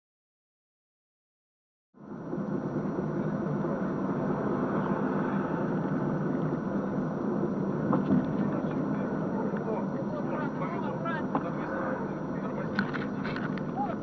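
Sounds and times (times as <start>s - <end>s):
vehicle driving: 2.0s - 14.0s.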